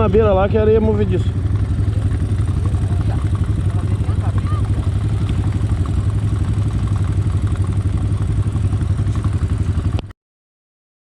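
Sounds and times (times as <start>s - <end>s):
atv engine running: 0.0s - 10.1s.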